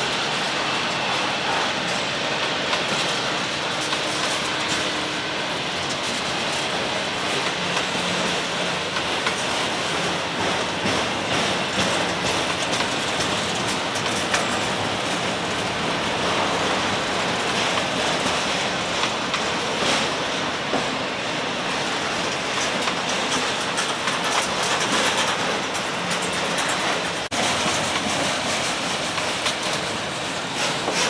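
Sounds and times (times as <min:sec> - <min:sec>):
train rumbling past: 0:00.0 - 0:31.0
wheels clicking over rails: 0:00.1 - 0:21.0, 0:21.7 - 0:31.0.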